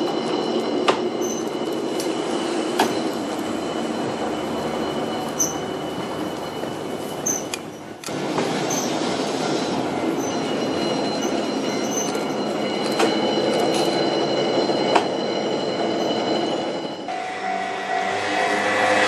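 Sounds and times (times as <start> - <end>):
steel wheels rumbling on rail: 0.0 - 19.0
high-pitched wheel squeal: 0.1 - 7.8, 10.0 - 19.0.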